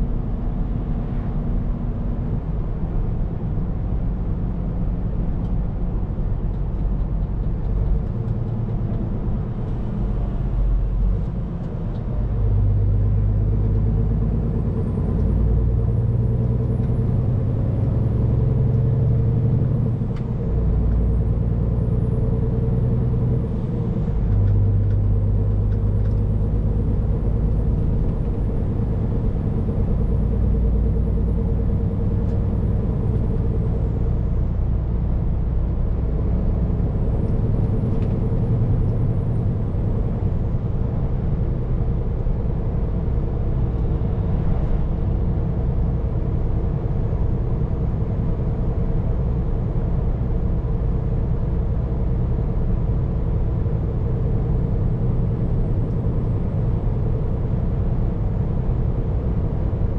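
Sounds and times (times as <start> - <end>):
diesel truck engine drone: 0.0 - 59.9.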